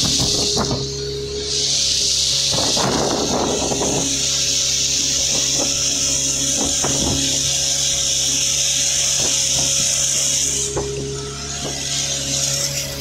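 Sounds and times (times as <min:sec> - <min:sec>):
high rushing hiss: 0:00.0 - 0:13.0
speedboat engine running: 0:00.0 - 0:13.0.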